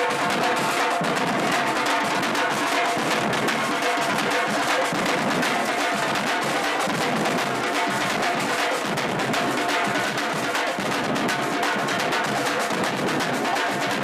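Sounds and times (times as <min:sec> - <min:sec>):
group drumming: 0:00.0 - 0:14.0.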